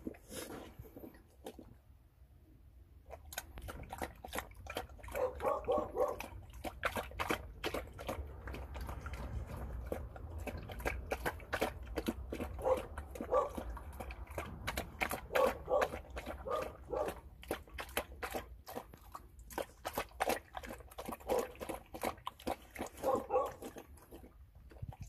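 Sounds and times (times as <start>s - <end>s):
dog lapping and slurping: 0.0s - 25.0s.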